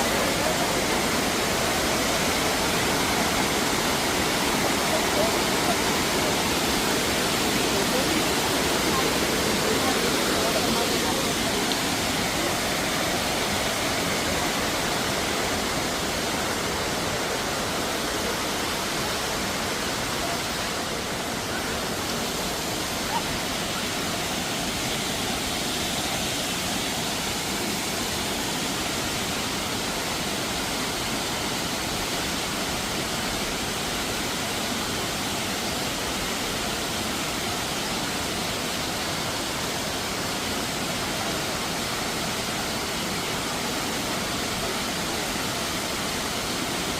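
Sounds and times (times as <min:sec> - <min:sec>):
flowing water rushing: 0:00.0 - 0:46.9.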